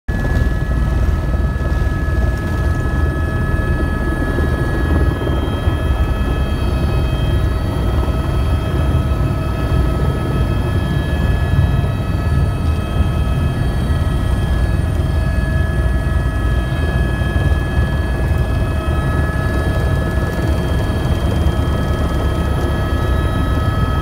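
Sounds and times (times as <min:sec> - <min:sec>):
helicopter rotor rumble: 0:00.1 - 0:24.0
high turbine whine: 0:00.1 - 0:24.0.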